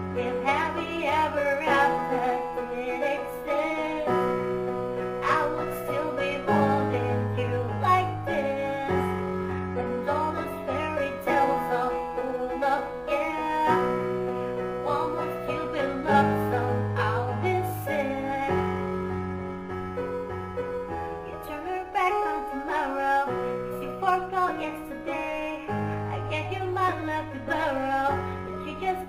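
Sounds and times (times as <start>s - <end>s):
piano pop backing music: 0.0s - 29.0s.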